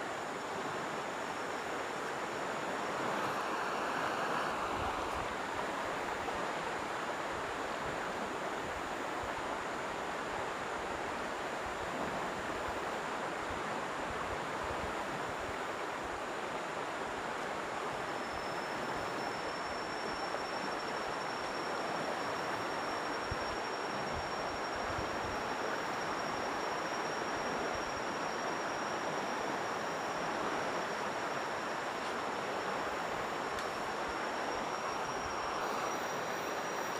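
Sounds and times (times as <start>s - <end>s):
high steady whine: 0.0s - 36.9s
river water flowing: 0.0s - 36.9s.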